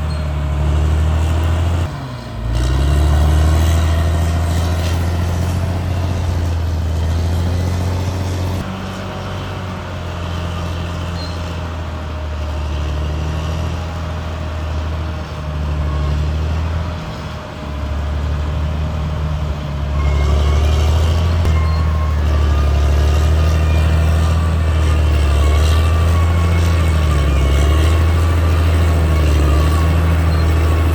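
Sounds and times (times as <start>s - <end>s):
bulldozer diesel engine droning: 0.0s - 30.9s.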